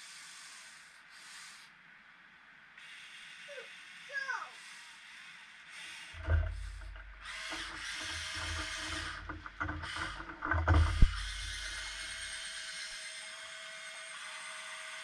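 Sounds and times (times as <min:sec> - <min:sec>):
toy excavator motors whirring: 0:00.0 - 0:01.8, 0:02.8 - 0:15.0.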